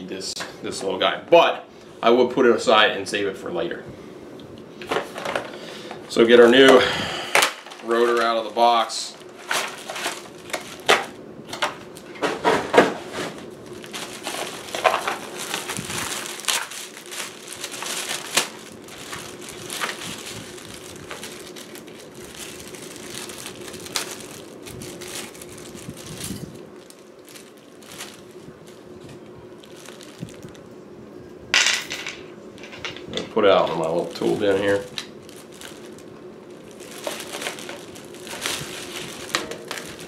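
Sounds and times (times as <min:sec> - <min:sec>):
cardboard packaging rustling: 0:04.9 - 0:30.7, 0:33.5 - 0:40.0
crinkly plastic bag crackling: 0:05.1 - 0:30.8, 0:33.4 - 0:40.0.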